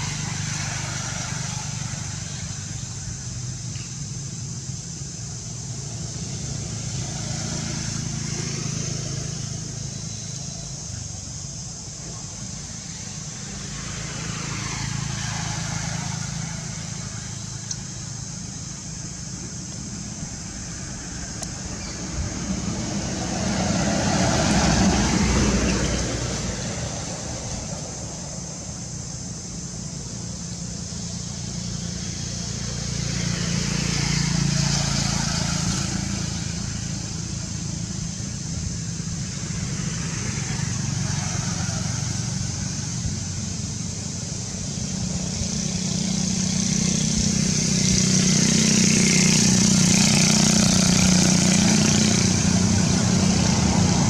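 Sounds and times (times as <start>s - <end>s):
high hiss: 0.0s - 54.0s
vehicle engine hum: 0.0s - 54.0s.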